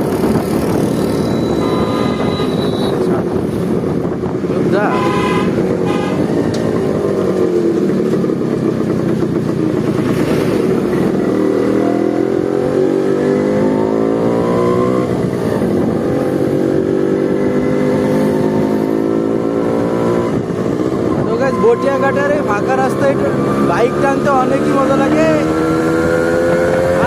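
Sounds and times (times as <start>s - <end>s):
motorcycle engine accelerating: 0.0s - 4.7s, 5.4s - 27.0s.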